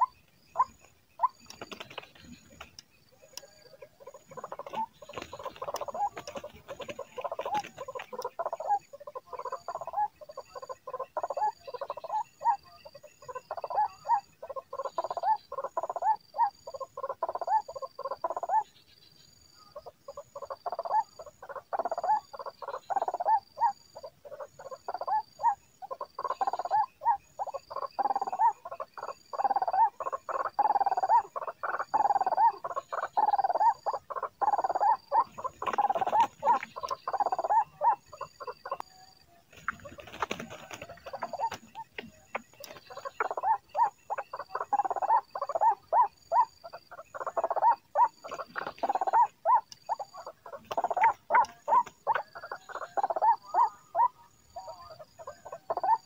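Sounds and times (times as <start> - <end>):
faint high pulsing ticks: 0.0 - 54.1
bird calling with harsh croaks: 0.0 - 56.0.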